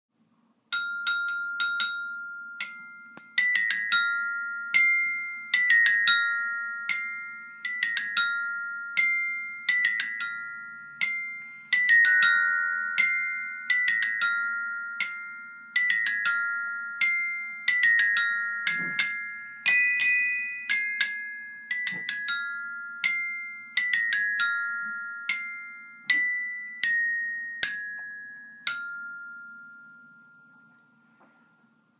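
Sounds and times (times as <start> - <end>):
mallet percussion melody: 0.8 - 31.0.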